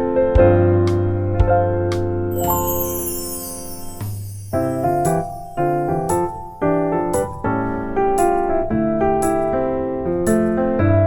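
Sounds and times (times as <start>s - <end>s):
gentle piano tune with beat: 0.0s - 11.0s.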